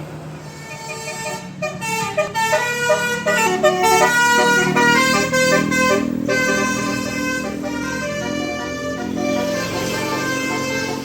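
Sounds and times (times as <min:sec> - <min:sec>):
musical bus horn melody: 0:00.4 - 0:11.0.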